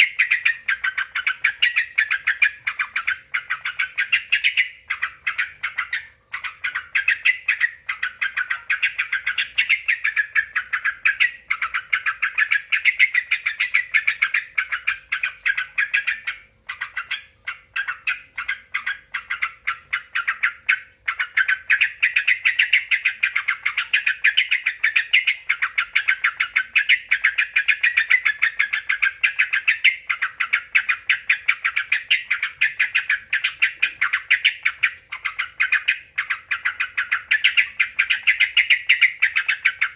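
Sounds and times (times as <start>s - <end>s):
bird chattering: 0.0s - 39.9s.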